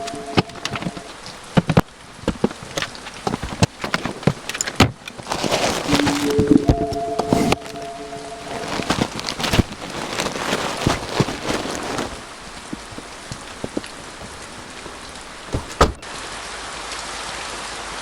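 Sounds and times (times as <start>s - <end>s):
rain on a roof: 0.0s - 7.7s, 8.4s - 18.0s.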